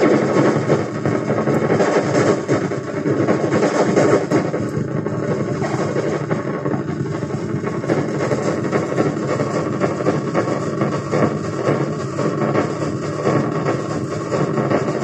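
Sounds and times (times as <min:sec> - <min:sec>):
synthesizer with dense echoes: 0:00.0 - 0:15.0.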